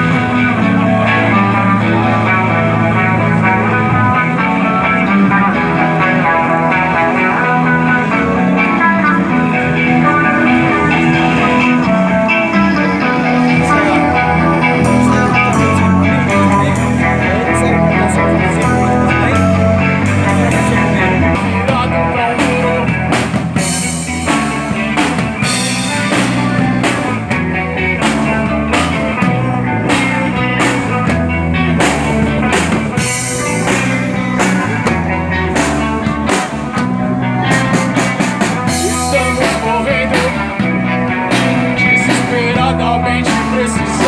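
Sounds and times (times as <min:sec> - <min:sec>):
bass guitar: 0:00.0 - 0:44.0
drum kit steady beat: 0:00.0 - 0:44.0
electric guitars: 0:00.0 - 0:44.0.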